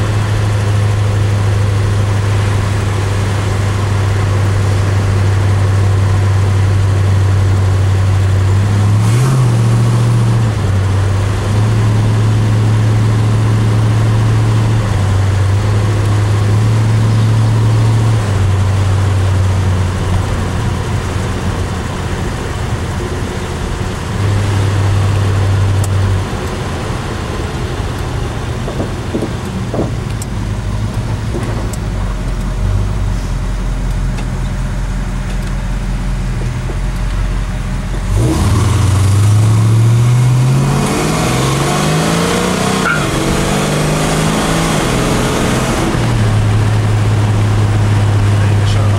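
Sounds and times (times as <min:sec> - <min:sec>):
car engine driving: 0:00.0 - 0:48.9.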